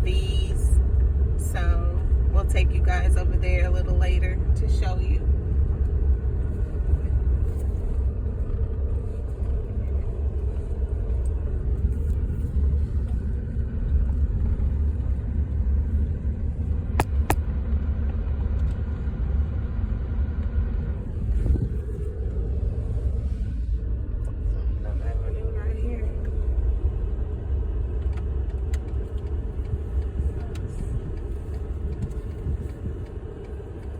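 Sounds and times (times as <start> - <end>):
vehicle rumble from inside cab: 0.0 - 33.9.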